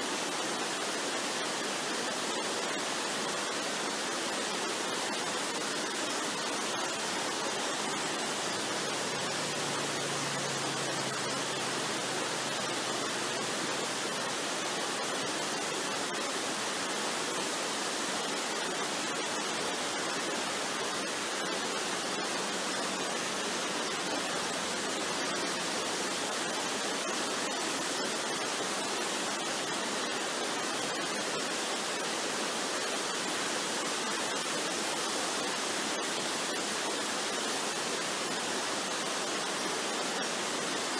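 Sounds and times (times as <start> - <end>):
waterfall rushing water: 0.0 - 40.9.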